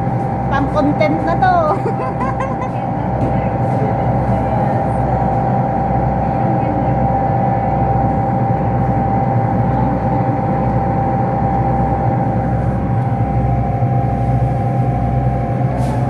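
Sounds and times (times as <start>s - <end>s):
boat engine droning: 0.0s - 16.0s
constant hum: 0.0s - 16.0s.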